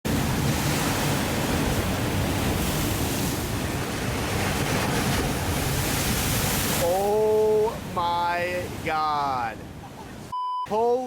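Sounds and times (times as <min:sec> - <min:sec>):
ocean surf breaking: 0:00.1 - 0:10.3.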